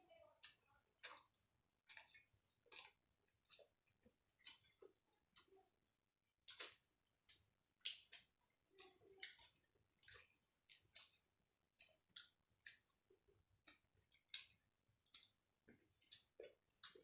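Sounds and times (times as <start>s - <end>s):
wet chewing smacks: 0.4s - 5.6s, 6.4s - 17.0s.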